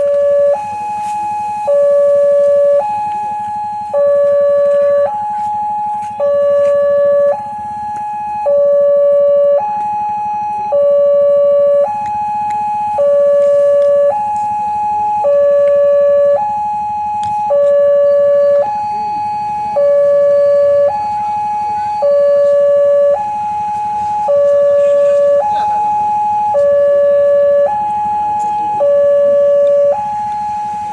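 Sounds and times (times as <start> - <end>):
level crossing two-tone alarm: 0.0 - 30.9.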